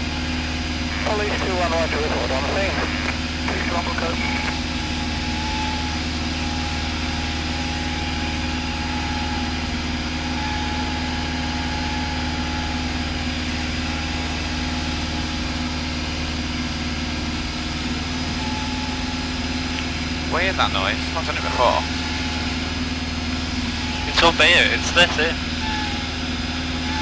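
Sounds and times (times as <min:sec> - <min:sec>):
piston engine and propeller drone: 0:00.0 - 0:27.0.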